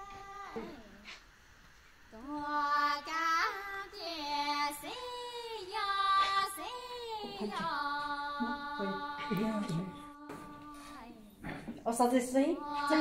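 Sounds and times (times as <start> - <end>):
high voice singing slow melody: 0.0 - 1.2, 2.1 - 11.6, 12.5 - 13.0.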